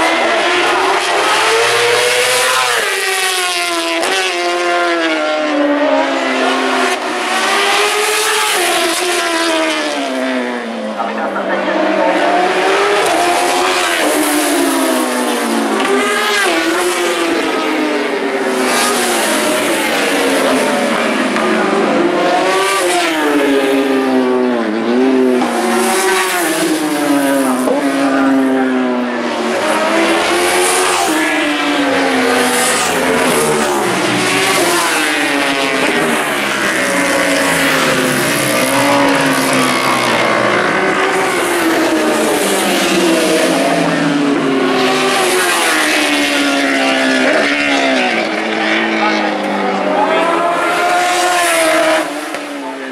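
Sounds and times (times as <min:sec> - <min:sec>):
racing motorcycles passing: 0:00.0 - 0:52.9.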